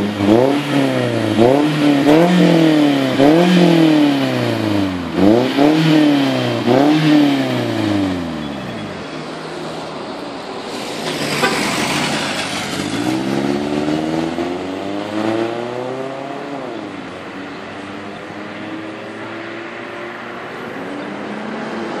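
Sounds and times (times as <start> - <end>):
car exhaust accelerating: 0.0 - 8.6, 10.7 - 19.7.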